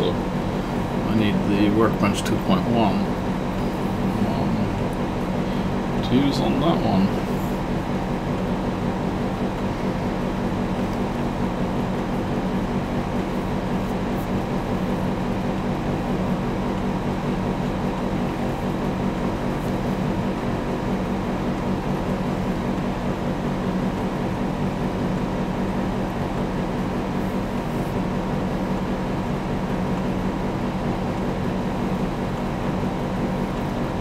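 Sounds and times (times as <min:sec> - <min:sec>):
mechanical hum with low drone: 0:00.0 - 0:34.0.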